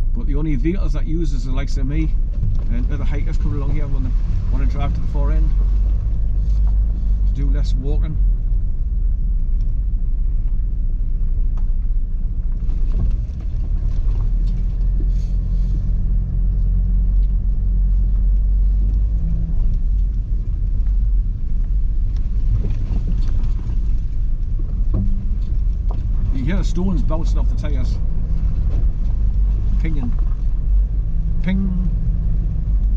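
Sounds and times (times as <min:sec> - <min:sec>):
car engine and tyres rumbling: 0:00.0 - 0:32.9
gravel crunching: 0:00.0 - 0:32.9.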